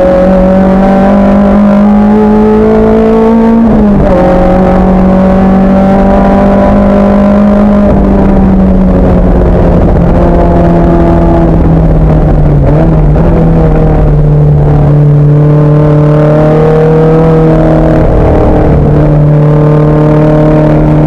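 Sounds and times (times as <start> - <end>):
racing car engine revving: 0.0 - 21.0.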